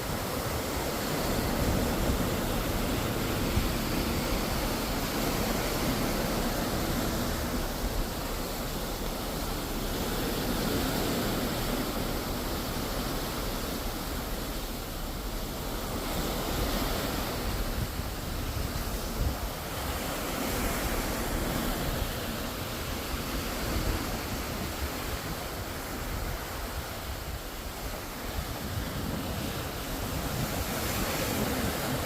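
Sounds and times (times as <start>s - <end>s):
low wind rumble on microphone: 0.0s - 32.0s
ocean water rushing and surging: 0.0s - 32.0s.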